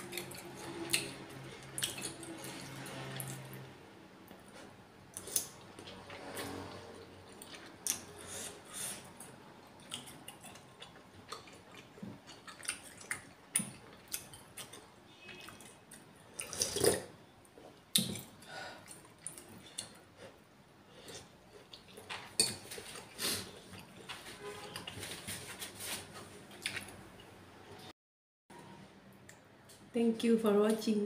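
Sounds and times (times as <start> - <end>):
chewing and wet mouth sounds: 0.0 - 3.7, 4.3 - 25.3, 26.5 - 27.4.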